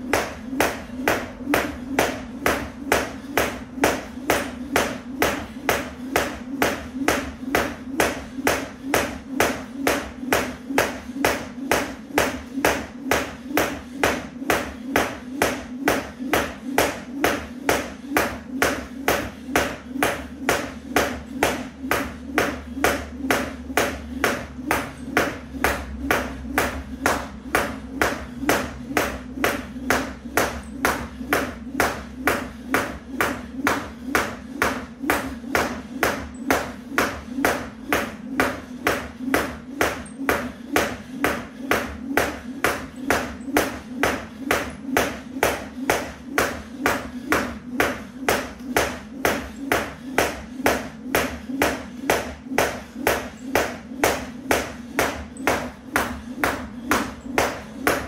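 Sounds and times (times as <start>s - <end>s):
jump rope slapping mat: 0.0s - 58.0s.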